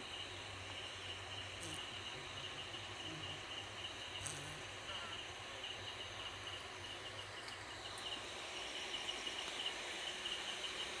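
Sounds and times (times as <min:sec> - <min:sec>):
faint low hum: 0:00.0 - 0:11.0
insects chirping: 0:00.0 - 0:11.0.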